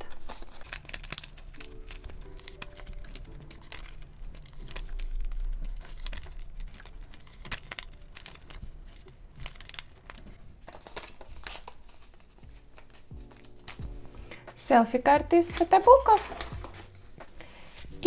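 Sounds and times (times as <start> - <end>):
plastic sleeves crinkling: 0.0 - 18.0.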